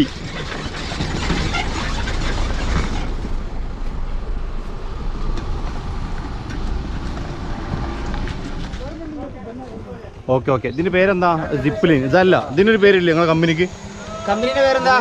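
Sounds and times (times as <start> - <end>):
off-road vehicle rumbling: 0.0 - 15.0.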